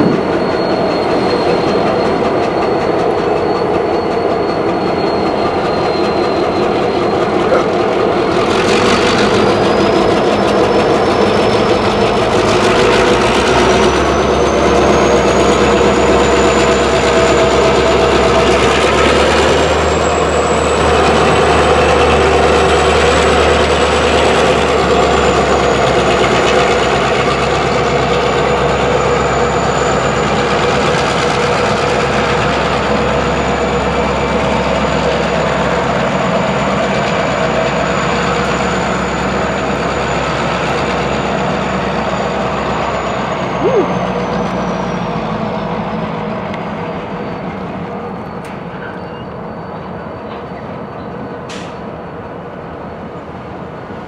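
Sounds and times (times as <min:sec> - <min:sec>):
low engine drone: 0:00.0 - 0:48.9
high wheel squeal: 0:00.0 - 0:54.0
train wheels rumbling and clacking: 0:00.0 - 0:54.0.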